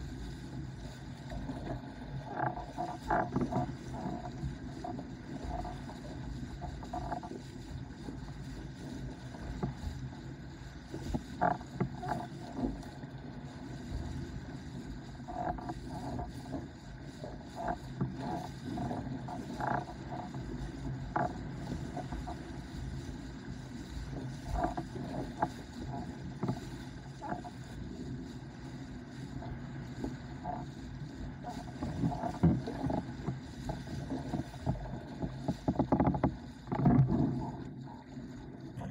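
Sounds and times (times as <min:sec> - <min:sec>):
water and wind rushing: 0:00.0 - 0:38.9.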